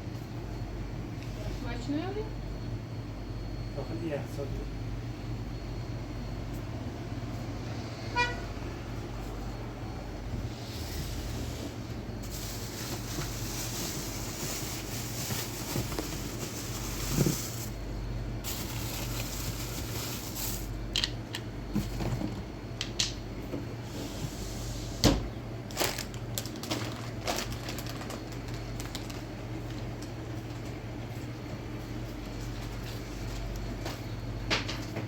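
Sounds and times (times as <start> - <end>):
low hum and hiss: 0.0 - 35.0.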